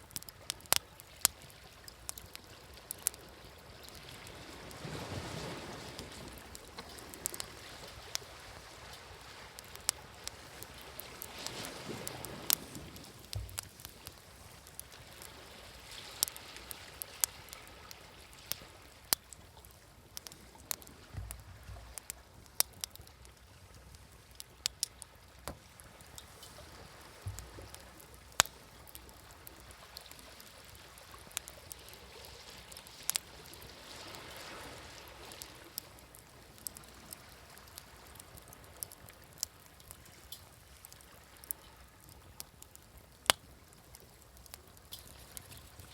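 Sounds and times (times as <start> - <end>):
campfire crackling and popping: 0.0 - 45.9
waves washing: 0.7 - 23.0, 25.7 - 42.3.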